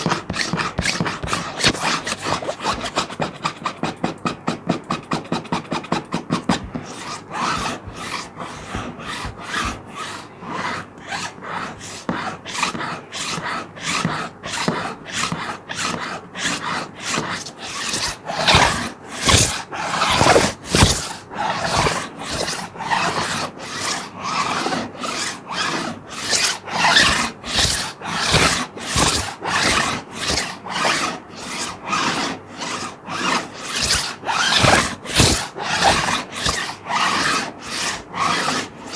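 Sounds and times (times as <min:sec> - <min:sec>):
plastic sheet being scratched: 0:00.0 - 0:04.1, 0:04.9 - 0:38.9.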